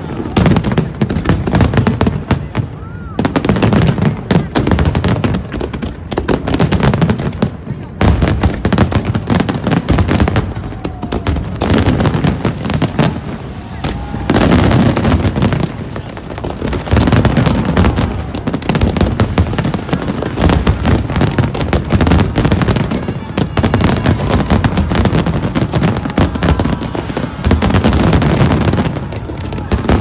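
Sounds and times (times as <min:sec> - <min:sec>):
deep fireworks booms: 0:00.0 - 0:30.0
fireworks bursting and crackling: 0:00.0 - 0:30.0.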